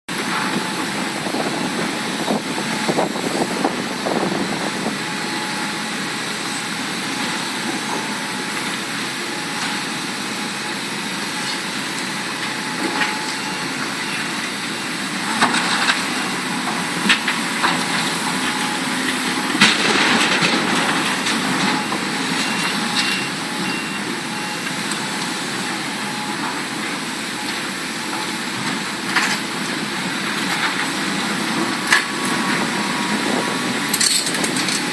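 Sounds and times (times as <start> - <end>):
excavator diesel engines running: 0.1 - 34.9.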